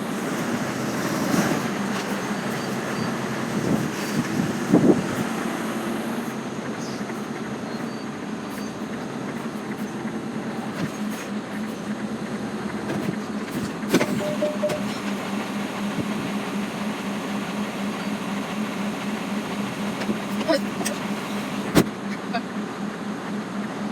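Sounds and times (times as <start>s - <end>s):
diesel lorry engine running: 0.0s - 23.9s.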